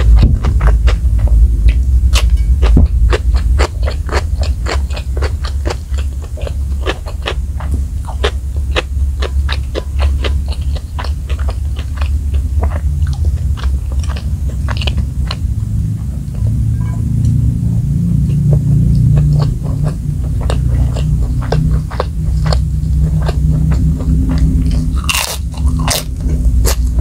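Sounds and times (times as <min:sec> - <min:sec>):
chewing crispy fried food: 0:00.0 - 0:16.7, 0:18.1 - 0:27.0
low steady hum: 0:00.0 - 0:27.0.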